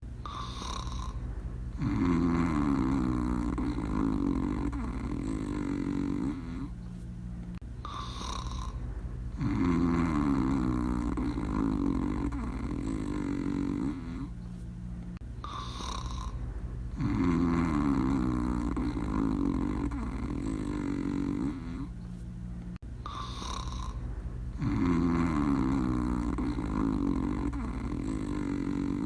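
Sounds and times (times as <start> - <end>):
cartoon dog snoring: 0.2 - 6.9, 7.8 - 14.5, 15.4 - 22.0, 23.0 - 29.0.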